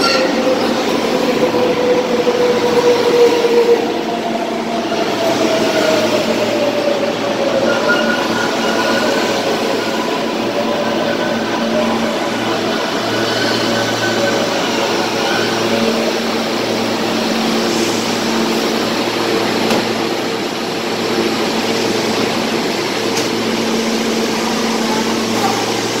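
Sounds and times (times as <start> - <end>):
subway train equipment hum: 0.0 - 26.0.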